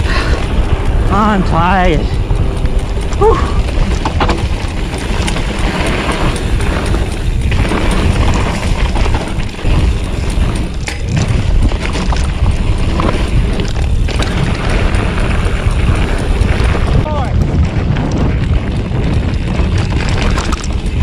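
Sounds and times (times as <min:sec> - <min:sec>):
bike rattling and knocking: 0:00.0 - 0:21.0
tyres rolling over dirt: 0:00.0 - 0:21.0
wind buffeting microphone: 0:00.0 - 0:21.0.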